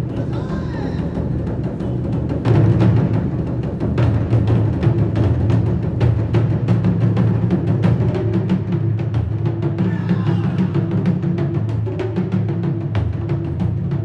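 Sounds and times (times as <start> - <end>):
drum ensemble playing: 0.0 - 14.0.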